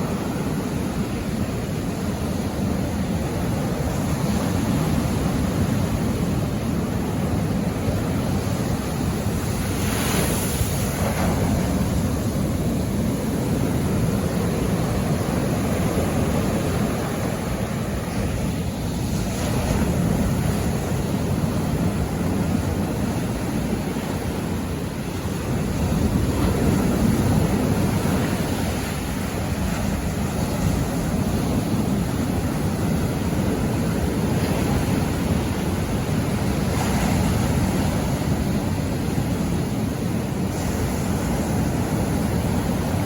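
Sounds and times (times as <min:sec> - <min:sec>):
sea waves washing on shore: 0:00.0 - 0:43.0
wind rumble on microphone: 0:00.0 - 0:43.0.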